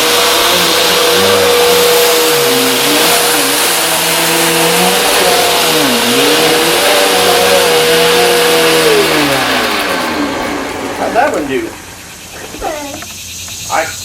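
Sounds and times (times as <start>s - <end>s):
upright vacuum cleaner running: 0.0s - 13.1s.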